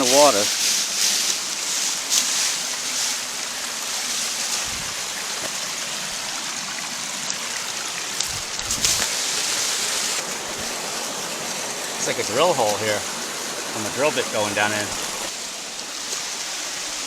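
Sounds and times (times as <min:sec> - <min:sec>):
creek and waterfall rushing: 0:00.0 - 0:17.0.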